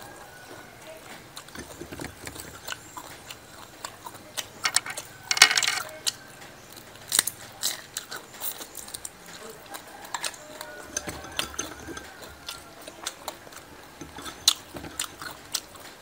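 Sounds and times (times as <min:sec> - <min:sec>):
person chewing crunchy food: 0:01.4 - 0:05.3, 0:05.9 - 0:16.0.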